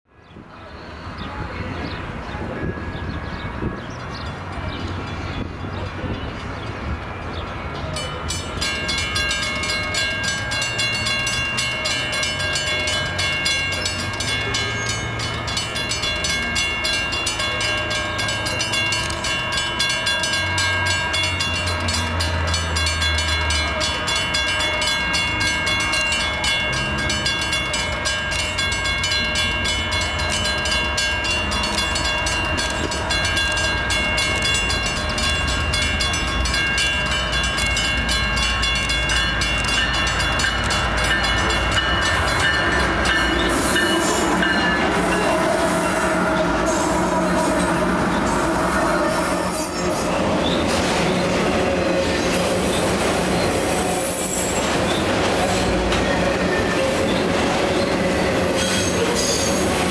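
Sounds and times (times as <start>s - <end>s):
railroad crossing bell ringing: 0.2s - 59.9s.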